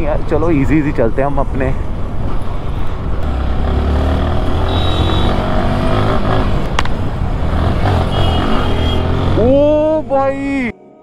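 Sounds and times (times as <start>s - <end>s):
wind and road noise: 0.0s - 10.7s.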